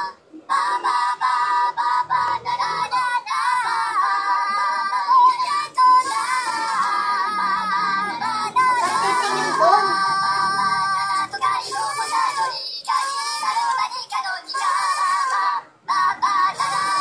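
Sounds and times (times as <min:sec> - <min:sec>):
people singing high-pitched melody: 0:00.0 - 0:17.0.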